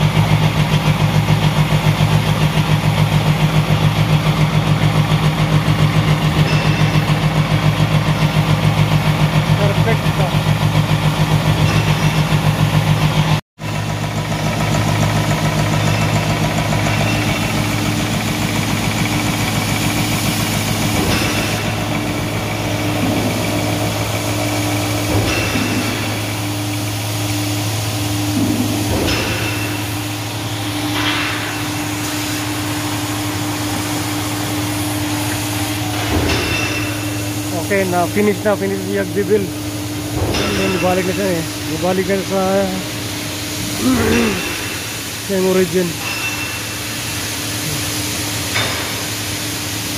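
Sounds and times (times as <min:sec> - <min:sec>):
machine mechanical drone: 0:00.0 - 0:49.9.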